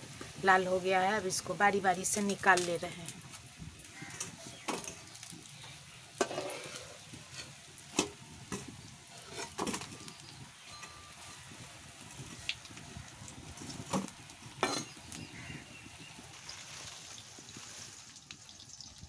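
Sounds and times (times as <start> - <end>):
leaf rolls sizzling in oil: 0.0 - 19.0.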